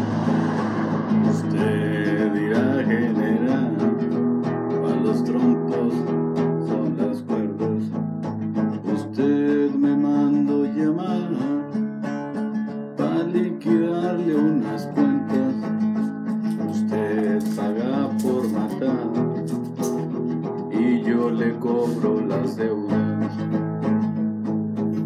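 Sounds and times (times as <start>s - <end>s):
acoustic guitar strumming: 0.0s - 25.0s
man singing: 1.2s - 8.0s, 8.7s - 12.0s, 13.0s - 23.6s.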